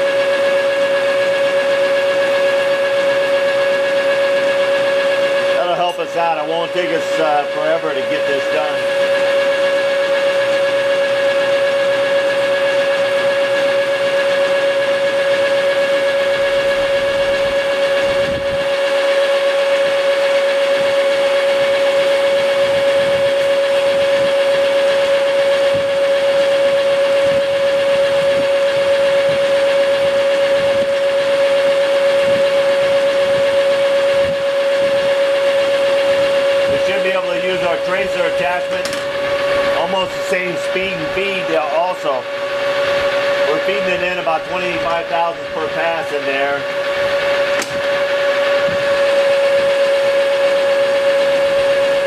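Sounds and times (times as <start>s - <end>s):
lathe cutting steel whine: 0.0s - 52.0s.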